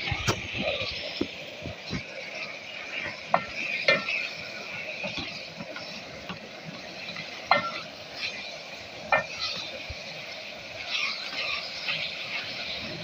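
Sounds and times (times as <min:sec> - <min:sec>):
mince frying hiss: 0:00.0 - 0:13.0.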